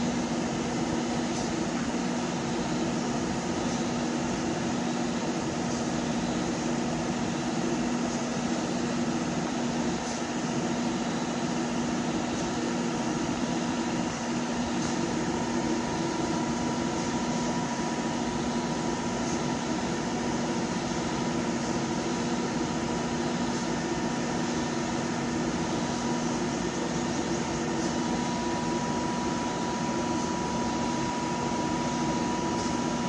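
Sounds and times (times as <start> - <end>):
machine hum: 4.3 - 33.0.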